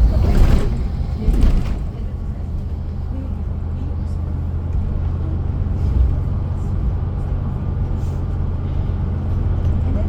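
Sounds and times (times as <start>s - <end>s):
bus rumbling from inside: 0.0s - 10.0s.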